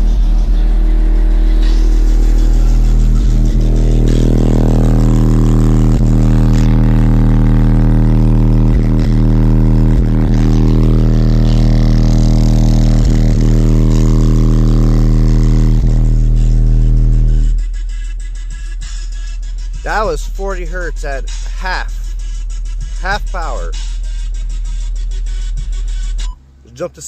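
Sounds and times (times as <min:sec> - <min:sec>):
loud subwoofer bass tone: 0:00.0 - 0:27.0.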